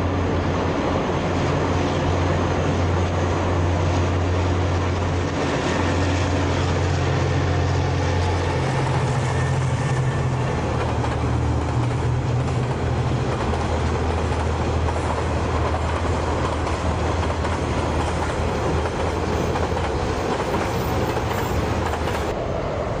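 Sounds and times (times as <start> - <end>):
freight train rolling past: 0.0 - 23.0.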